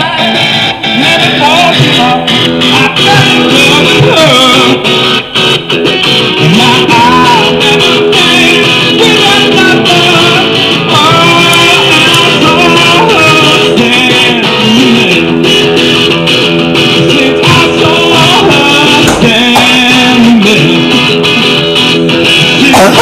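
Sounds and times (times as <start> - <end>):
man singing: 0.0 - 5.4, 6.4 - 15.8, 16.8 - 21.5, 22.3 - 23.0
strummed guitar: 0.0 - 23.0.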